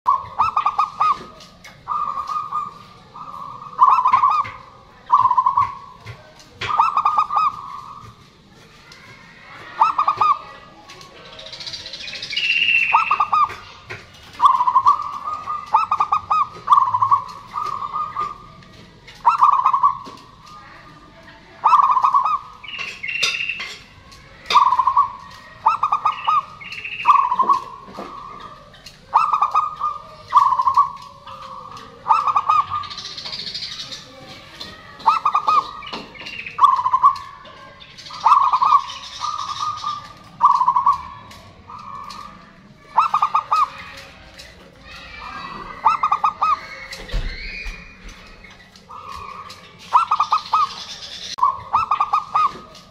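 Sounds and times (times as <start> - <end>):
dove cooing: 0.1 - 8.3, 8.9 - 20.6, 21.4 - 52.9.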